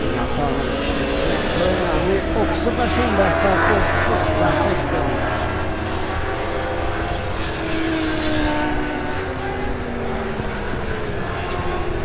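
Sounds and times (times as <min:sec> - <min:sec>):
racing motorcycle engines droning: 0:00.0 - 0:12.0.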